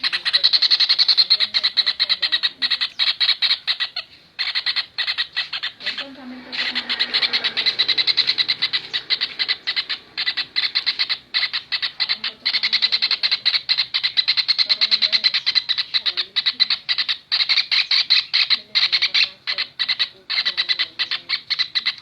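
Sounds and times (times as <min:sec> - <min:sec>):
kingfisher shrill chatter: 0:00.0 - 0:22.0.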